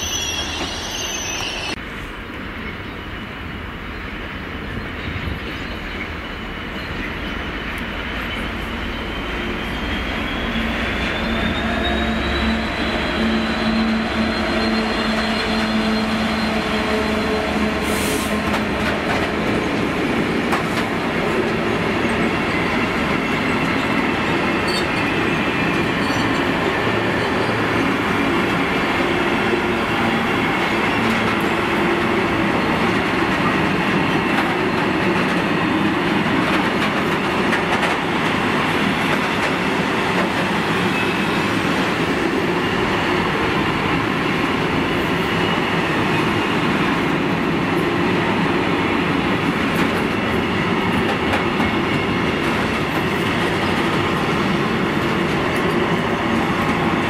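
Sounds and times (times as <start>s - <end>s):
diesel locomotive engine passing: 0.0s - 57.0s.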